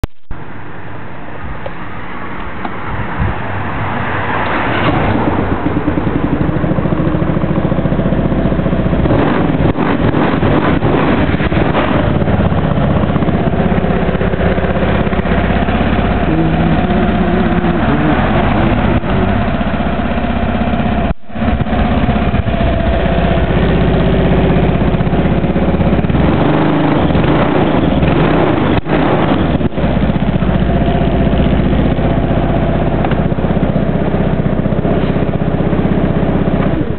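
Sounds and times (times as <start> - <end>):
scooter engine starting and idling: 4.6 - 36.9.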